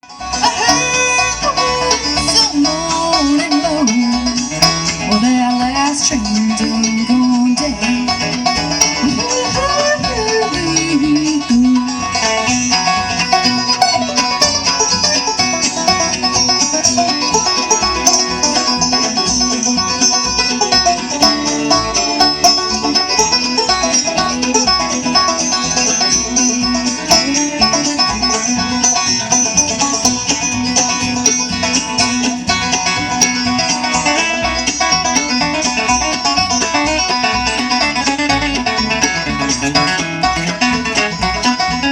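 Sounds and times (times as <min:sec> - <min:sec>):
banjo picking: 0:00.0 - 0:41.9
bluegrass band playing: 0:00.0 - 0:41.9.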